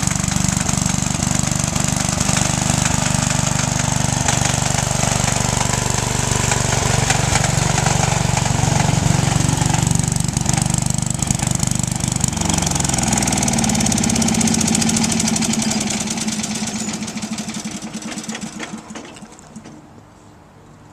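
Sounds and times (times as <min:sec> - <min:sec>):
lawn tractor engine running: 0:00.0 - 0:20.0.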